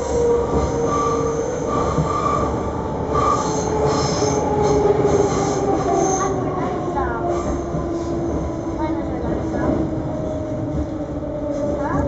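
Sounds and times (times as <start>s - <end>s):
high whines of wheels on rails: 0.0s - 12.0s
train wheels rumbling: 0.0s - 12.0s.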